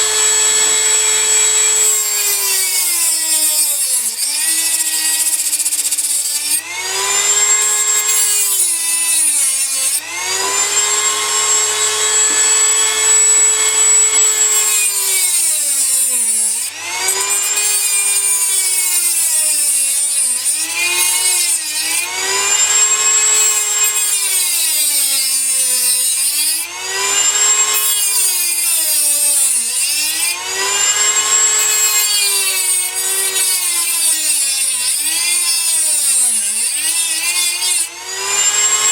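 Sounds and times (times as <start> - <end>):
electric drill whining: 0.0 - 38.9.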